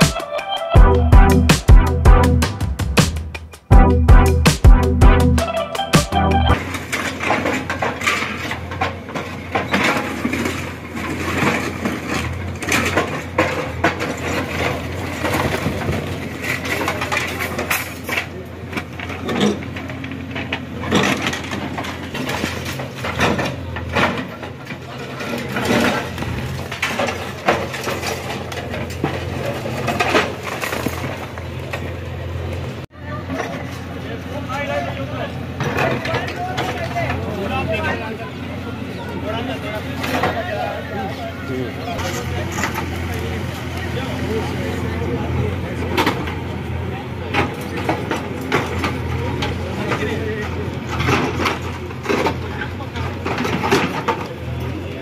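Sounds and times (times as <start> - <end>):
diesel engine running: 0.8 - 55.0.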